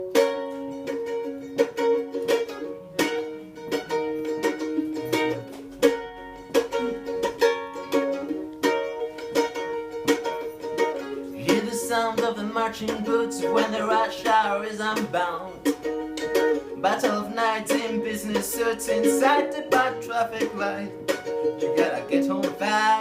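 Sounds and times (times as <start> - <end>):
strummed acoustic string instrument: 0.0 - 23.0.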